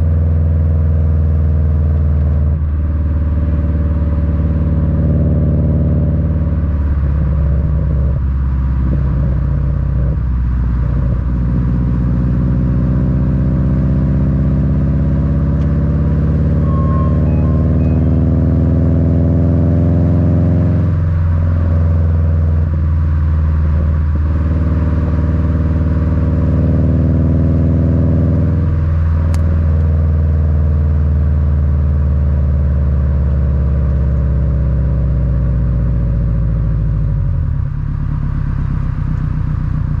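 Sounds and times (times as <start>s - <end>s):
car exhaust rumbling: 0.0s - 40.0s.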